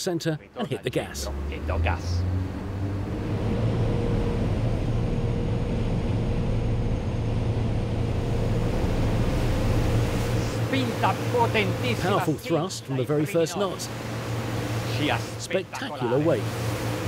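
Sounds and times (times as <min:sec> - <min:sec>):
boat engine drone: 0:00.6 - 0:17.0
rush of jet wash: 0:01.3 - 0:17.0.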